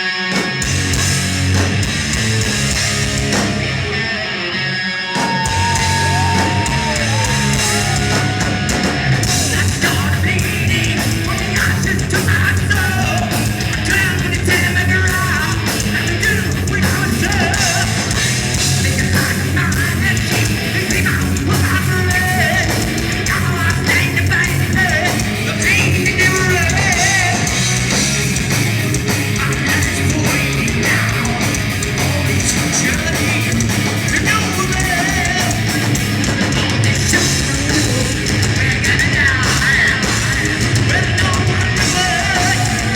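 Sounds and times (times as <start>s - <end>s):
heavy metal band playing live: 0.0s - 42.9s
high yelled vocals: 3.0s - 42.9s.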